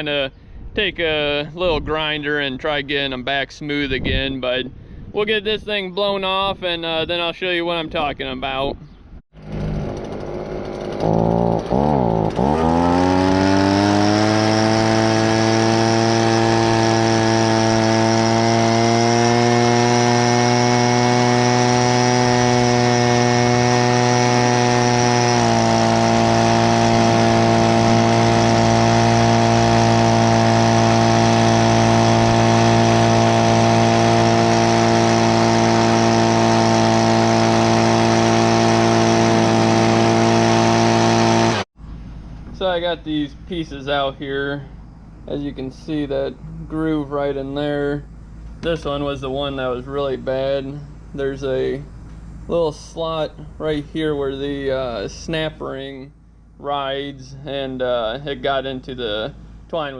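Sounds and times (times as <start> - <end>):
leaf blower engine: 9.4 - 59.9.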